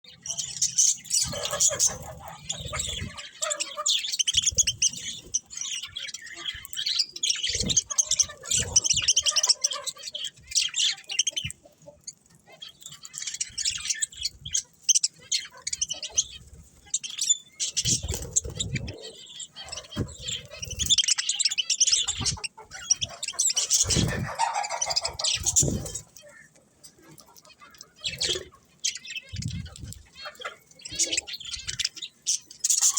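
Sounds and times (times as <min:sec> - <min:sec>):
budgerigars chirping: 0:00.1 - 0:26.5, 0:27.1 - 0:32.9.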